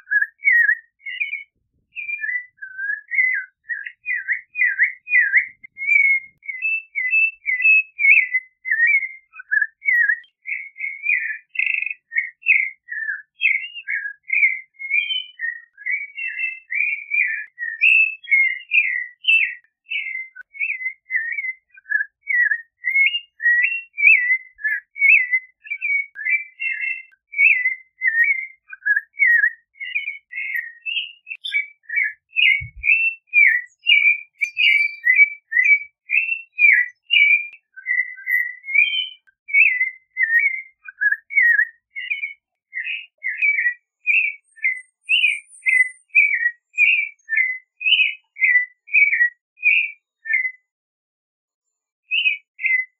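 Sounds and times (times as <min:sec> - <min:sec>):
thrush singing whistled notes: 0:00.0 - 0:50.7, 0:52.1 - 0:52.9.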